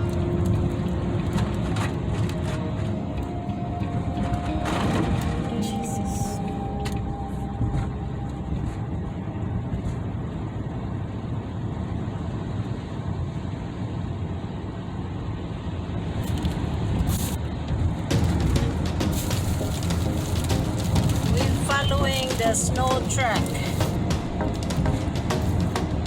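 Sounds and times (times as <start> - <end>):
car tyres and engine rumbling on snow: 0.0 - 26.0.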